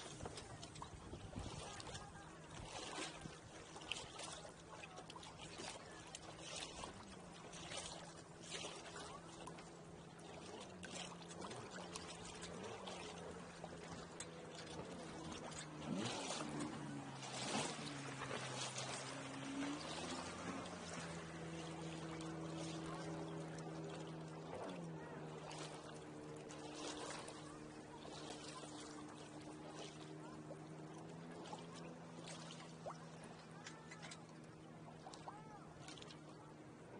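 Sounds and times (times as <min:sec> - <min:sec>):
water gurgling along boat hull: 0:00.0 - 0:36.9.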